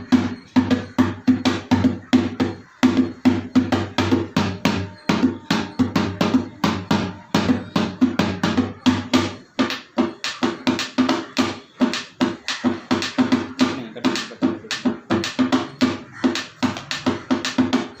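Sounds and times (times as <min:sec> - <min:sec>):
rhythmic drum music: 0:00.0 - 0:18.0.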